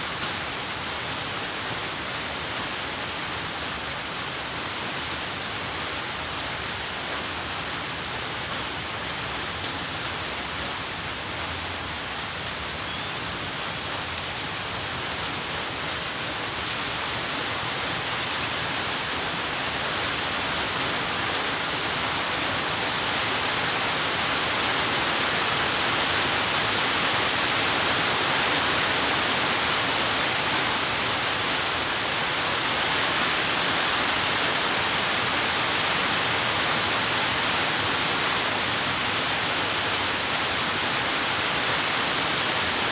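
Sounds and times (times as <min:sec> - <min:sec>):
heavy rain hissing: 0:00.0 - 0:42.9.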